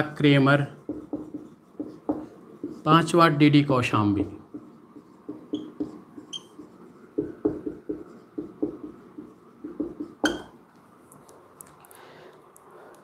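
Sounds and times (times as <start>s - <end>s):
marker writing on whiteboard: 0.0s - 10.6s.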